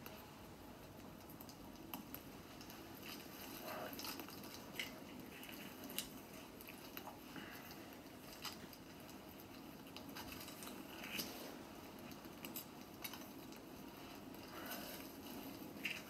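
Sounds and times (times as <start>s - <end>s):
twig fire crackling: 0.0s - 16.0s.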